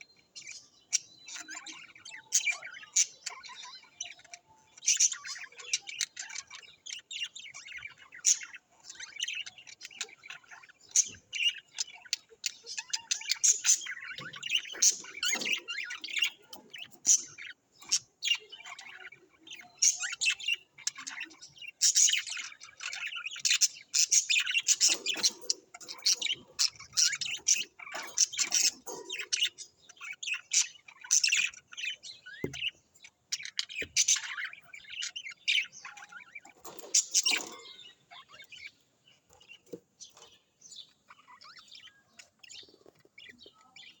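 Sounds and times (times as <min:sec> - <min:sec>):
cage birds chirping and twittering: 0:00.0 - 0:44.0.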